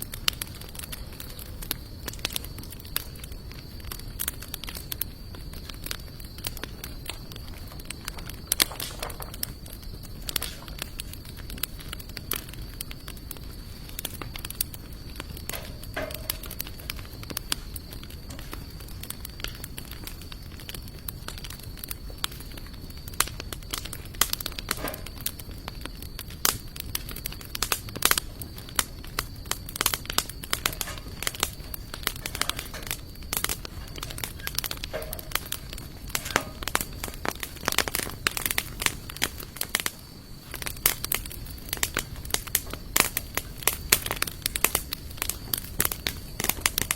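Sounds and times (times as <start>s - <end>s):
campfire crackling: 0.0s - 46.9s
sharp pops from fire: 0.0s - 46.9s.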